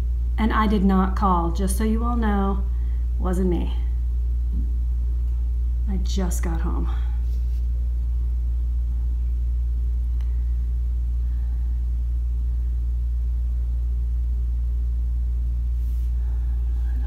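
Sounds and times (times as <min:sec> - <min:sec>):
steady low hum: 0:00.0 - 0:17.0
deep rumble: 0:01.5 - 0:17.0.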